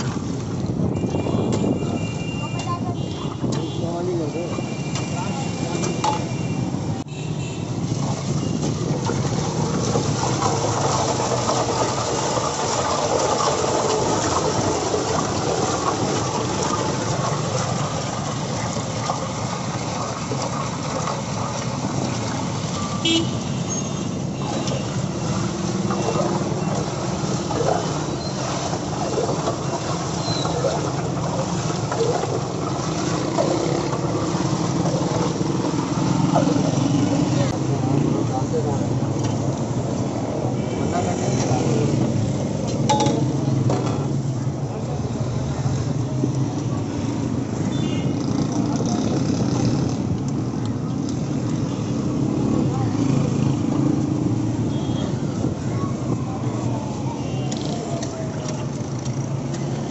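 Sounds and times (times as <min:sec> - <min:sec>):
motorcycles running: 0:07.7 - 0:59.9.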